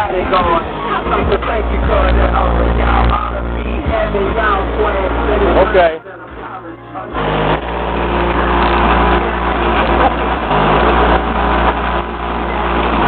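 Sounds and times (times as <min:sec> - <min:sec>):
bass-heavy rap through subwoofers: 0:00.0 - 0:13.0.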